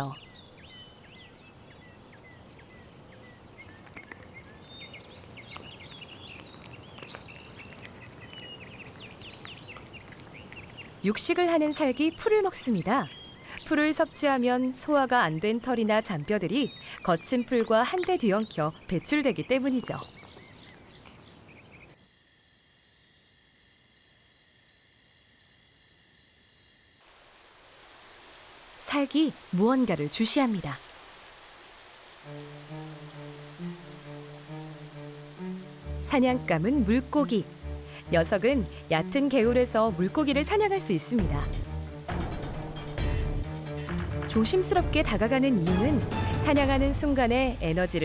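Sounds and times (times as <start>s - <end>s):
small birds chirping: 0.0s - 22.0s, 28.7s - 48.0s
faint outdoor background: 0.0s - 48.0s
night insects trilling: 0.0s - 48.0s.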